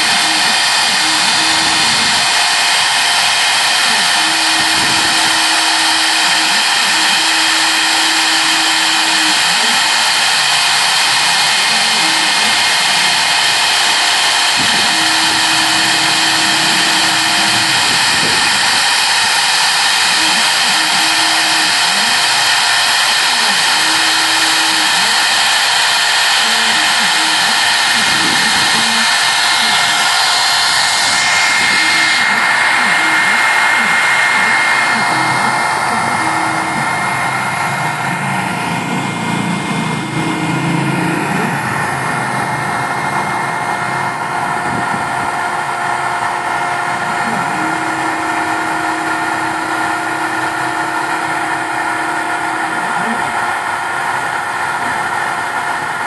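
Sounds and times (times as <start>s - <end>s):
lower tone: 0.0s - 55.2s
router spindle high-pitched whine: 0.0s - 56.0s.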